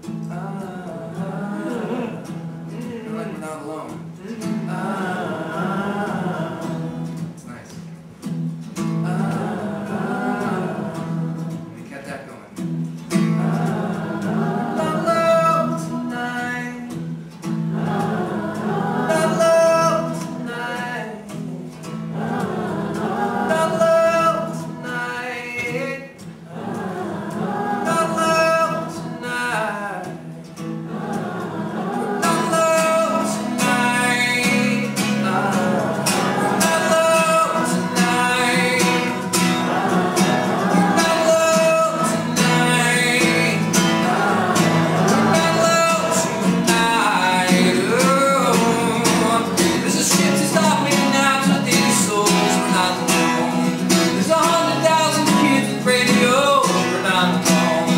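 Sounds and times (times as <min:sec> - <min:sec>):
man singing: 0:00.0 - 0:07.8, 0:08.8 - 0:30.3, 0:30.9 - 0:57.9
strummed acoustic guitar: 0:00.0 - 0:57.9.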